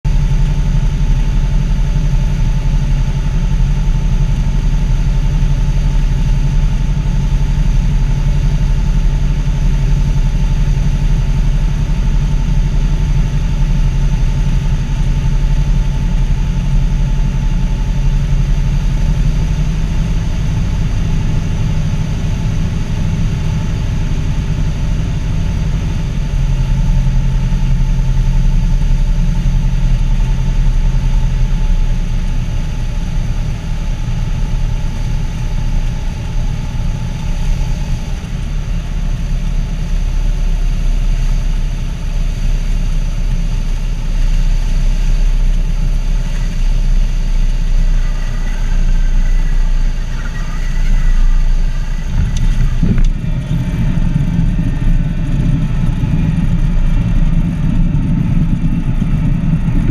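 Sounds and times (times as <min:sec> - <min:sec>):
airplane engine and propeller: 0:00.1 - 0:59.9.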